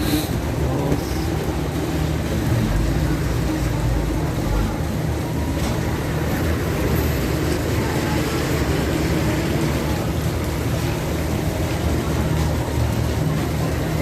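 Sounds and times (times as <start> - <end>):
constant low rumble: 0.0 - 14.0
heavy rain falling: 0.0 - 14.0.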